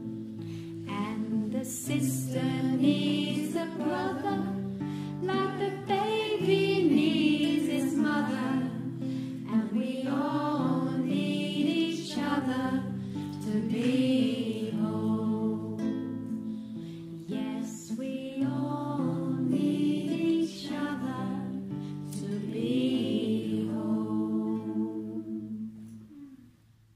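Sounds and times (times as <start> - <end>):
group singing: 0.9 - 16.4, 17.2 - 26.0.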